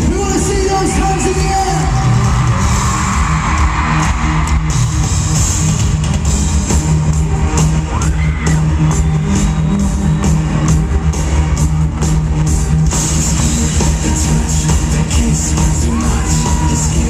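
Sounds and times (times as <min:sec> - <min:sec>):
bass guitar: 0:00.0 - 0:17.0
steady drumbeat: 0:00.0 - 0:17.0.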